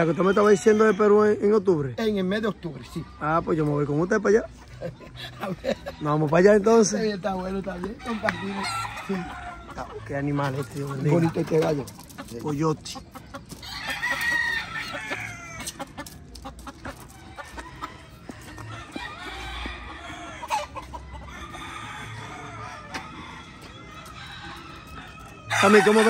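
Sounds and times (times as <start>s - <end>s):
roosters crowing and clucking: 0.0s - 26.0s.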